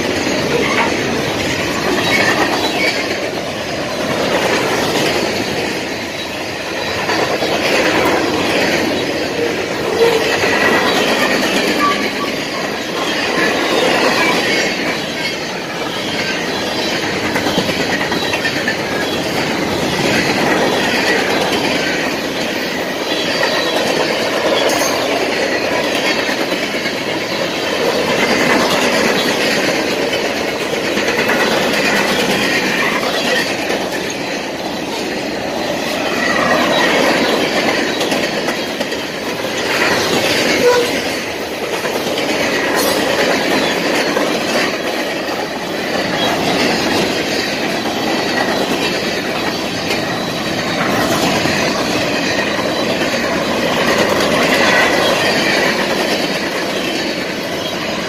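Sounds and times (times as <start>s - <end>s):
clickety-clack over rail joints: 0.0s - 58.0s
freight train wheels rumbling: 0.0s - 58.0s.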